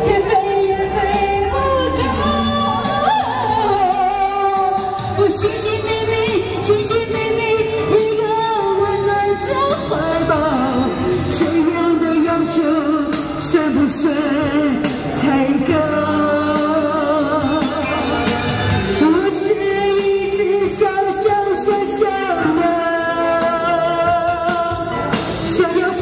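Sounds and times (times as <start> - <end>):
recorded backing music: 0.0 - 26.0
woman singing into microphone: 0.0 - 26.0.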